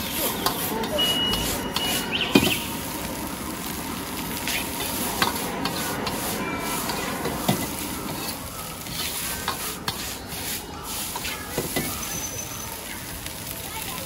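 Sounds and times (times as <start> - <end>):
metal utensils scraping a wok: 0.0 - 2.9, 4.4 - 12.8
rice sizzling in a wok: 0.0 - 14.0.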